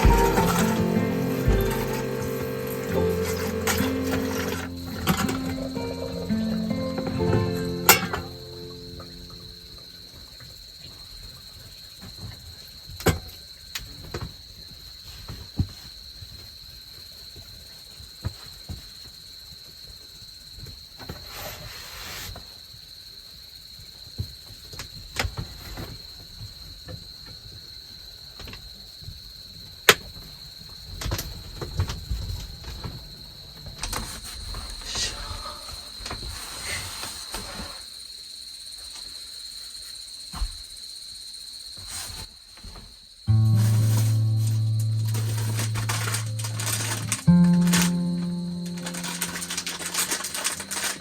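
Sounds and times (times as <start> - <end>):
crickets trilling: 0.0 - 51.0.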